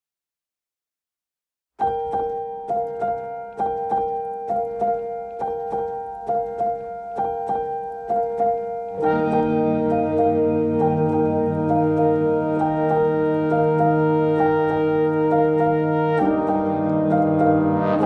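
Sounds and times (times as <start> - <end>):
repeated piano notes: 1.8 - 18.0.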